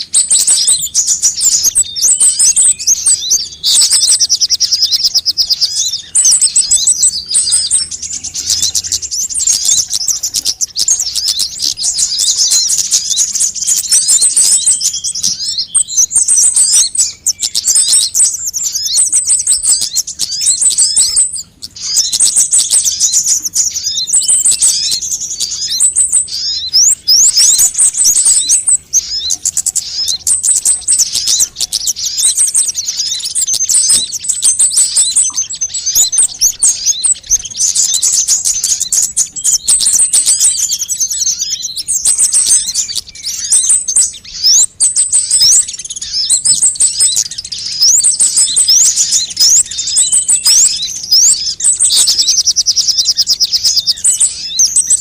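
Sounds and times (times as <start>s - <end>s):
sunbirds chirping and trilling: 0.0s - 55.0s.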